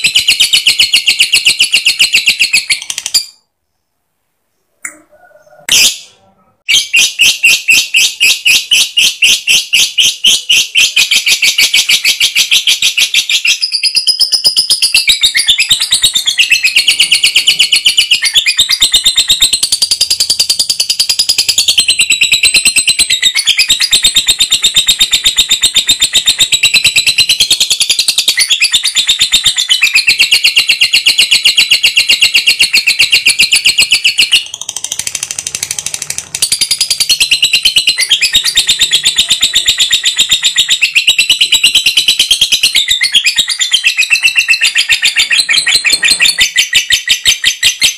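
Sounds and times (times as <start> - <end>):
lovebird chattering: 6.7 - 47.9.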